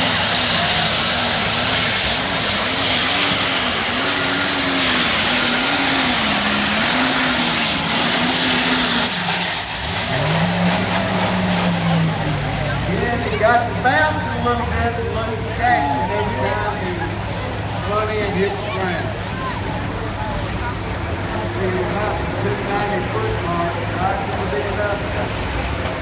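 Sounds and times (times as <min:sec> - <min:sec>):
tractor engine at full power: 0:00.0 - 0:26.0.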